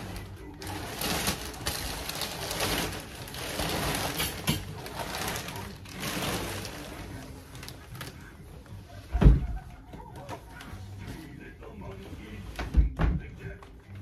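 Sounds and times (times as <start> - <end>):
plastic wrapping crinkling: 0.0 - 12.7.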